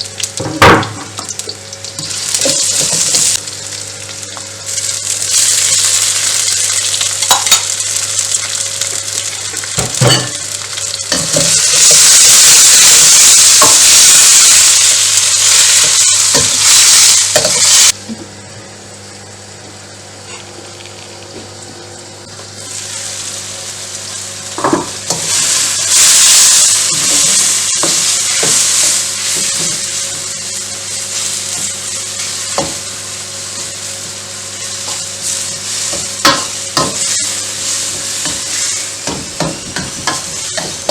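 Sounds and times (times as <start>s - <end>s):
food sizzling in a frying pan: 0.0s - 18.0s, 22.4s - 40.9s.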